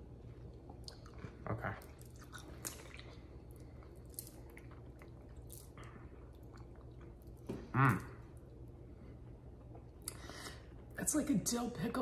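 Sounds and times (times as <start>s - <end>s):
person chewing: 0.4s - 8.7s, 9.4s - 10.9s.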